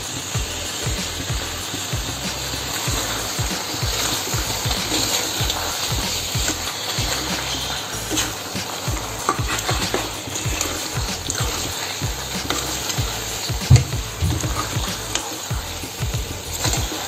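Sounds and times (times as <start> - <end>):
gravy sizzling: 0.0 - 17.0.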